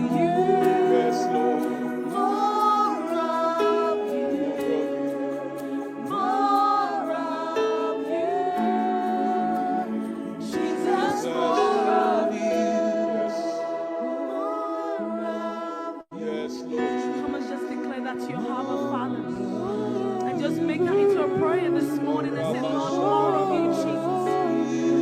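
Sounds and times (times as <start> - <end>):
singers in slow gospel song: 0.0 - 25.0
sustained chords: 0.0 - 25.0.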